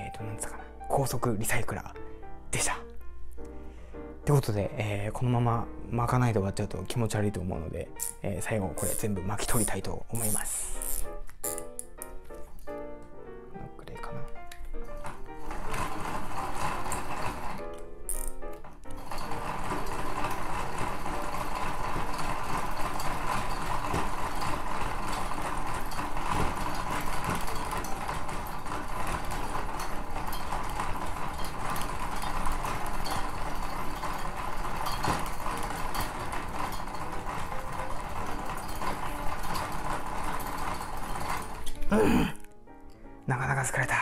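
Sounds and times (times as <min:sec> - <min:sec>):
hand-cranked spool whirring: 0:04.2 - 0:12.8, 0:14.4 - 0:42.4.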